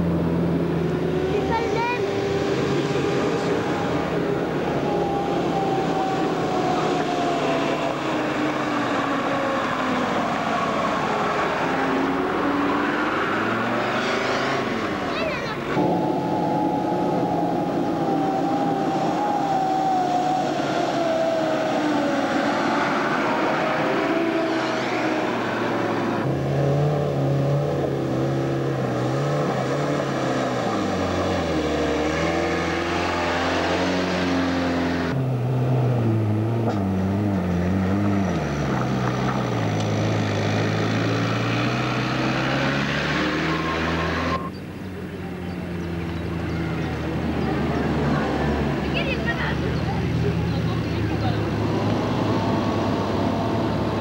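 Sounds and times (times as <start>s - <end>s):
off-road engines revving: 0.0s - 54.0s.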